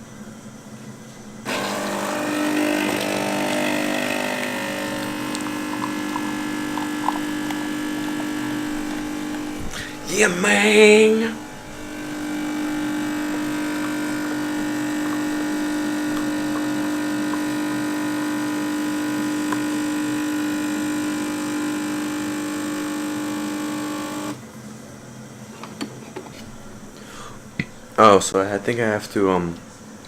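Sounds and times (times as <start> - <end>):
coffee machine pump buzzing: 0.0 - 24.4.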